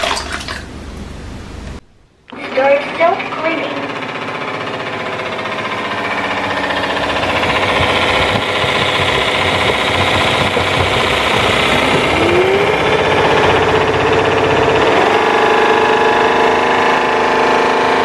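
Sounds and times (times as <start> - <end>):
rising whine: 0.7 - 18.0
vacuum motor rattling whir: 2.3 - 18.0.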